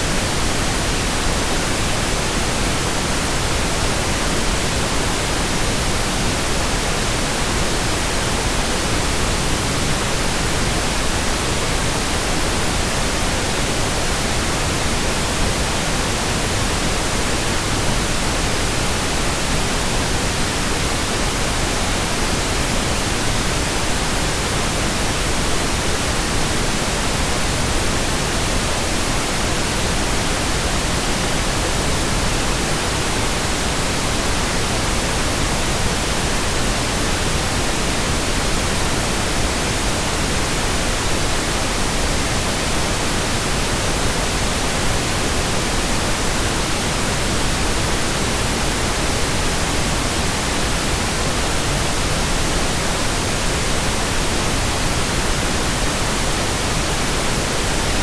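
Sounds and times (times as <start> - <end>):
steady white noise: 0.0 - 58.0.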